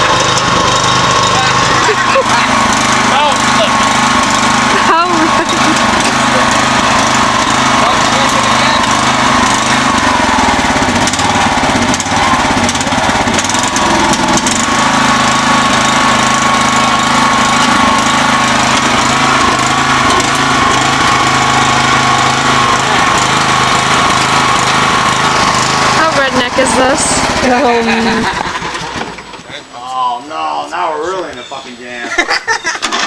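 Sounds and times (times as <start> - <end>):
small mower engine whining: 0.0 - 33.0.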